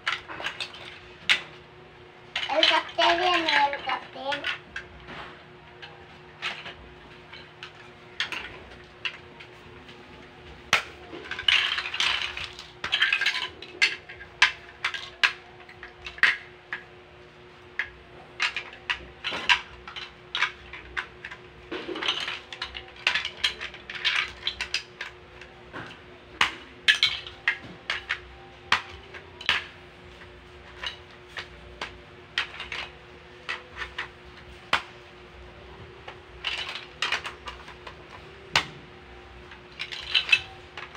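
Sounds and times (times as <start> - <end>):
plastic bricks clicking and clattering: 0.0 - 1.6, 2.3 - 9.6, 10.7 - 16.9, 17.6 - 40.9.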